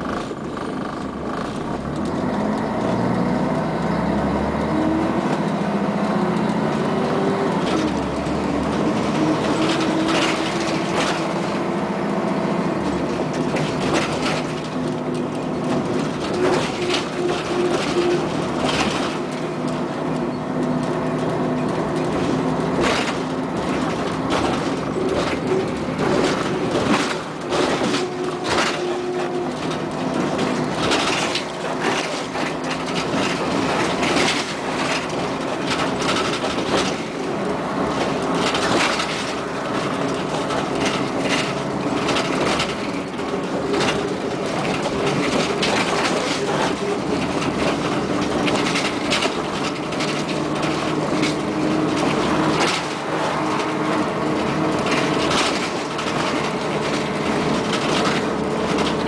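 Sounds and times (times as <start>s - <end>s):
bus body rattling and knocking: 0.0s - 59.0s
bus diesel engine droning: 0.0s - 59.0s
road noise: 0.0s - 59.0s.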